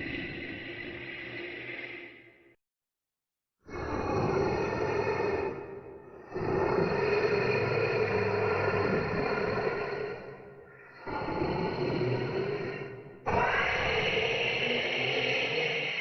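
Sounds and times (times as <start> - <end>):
eerie ghost drone: 0.0 - 2.6, 3.7 - 16.0.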